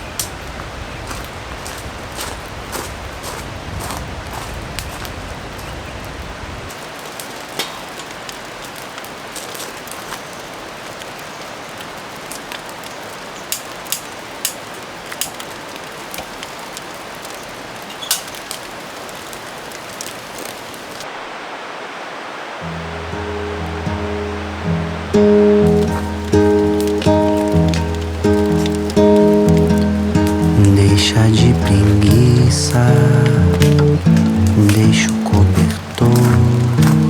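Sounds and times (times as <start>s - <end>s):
campfire crackling: 0.0s - 21.2s, 22.6s - 37.0s.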